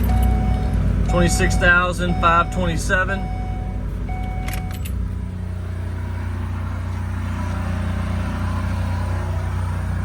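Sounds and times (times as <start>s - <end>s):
engine idling low hum: 0.0s - 10.0s.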